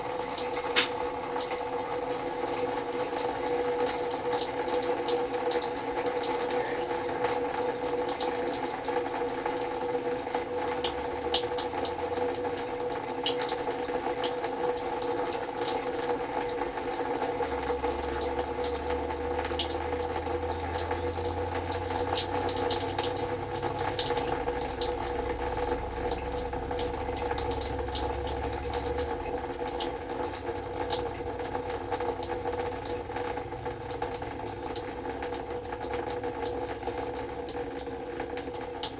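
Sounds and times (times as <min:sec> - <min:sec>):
water sputtering from faucet: 0:00.0 - 0:38.9.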